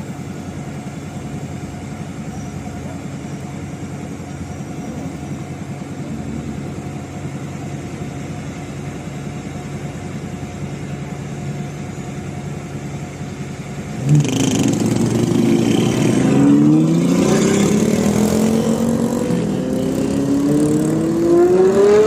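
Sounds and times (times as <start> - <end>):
car engine idling: 0.0 - 21.6.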